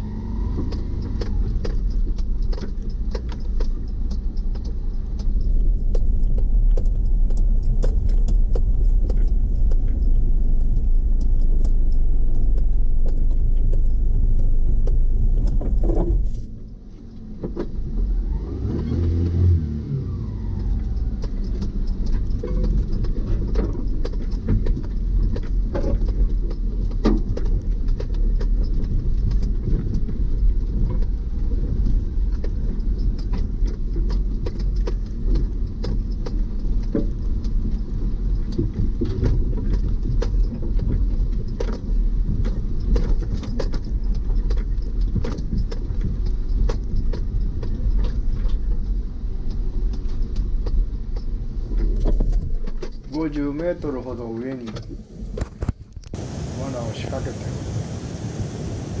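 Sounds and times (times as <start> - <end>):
truck engine and road rumble: 0.0 - 59.0
knocks and rattles: 0.4 - 18.1, 20.5 - 55.9.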